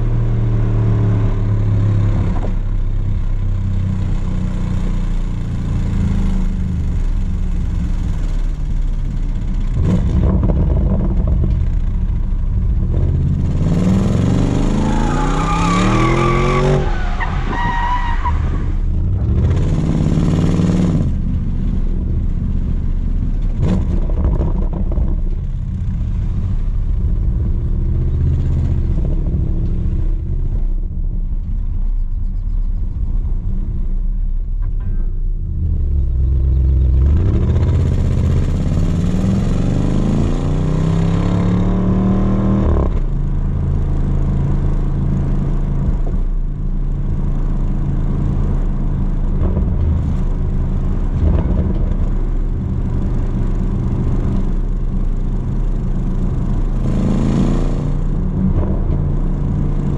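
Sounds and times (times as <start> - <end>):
car exhaust drone: 0.0 - 59.9.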